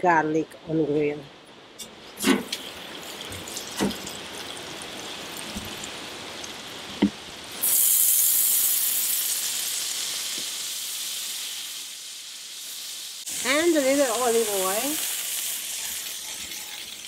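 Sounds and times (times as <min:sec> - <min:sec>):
butter sizzling on a hot griddle: 0:02.1 - 0:17.0.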